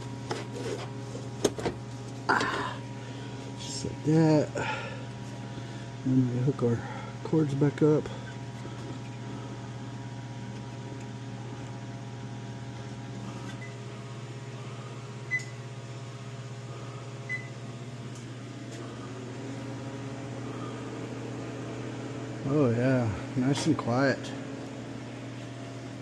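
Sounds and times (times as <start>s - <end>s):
oven fan motor humming: 0.0s - 26.0s.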